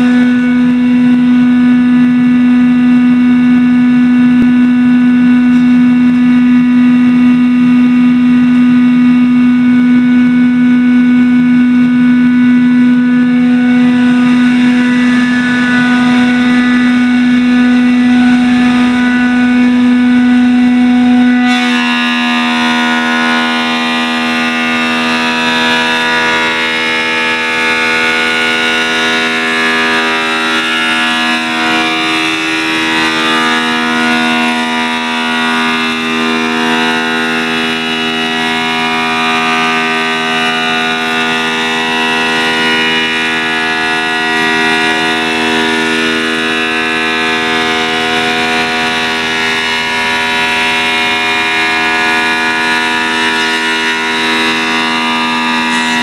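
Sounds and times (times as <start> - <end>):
planer motor whining: 0.0 - 56.0.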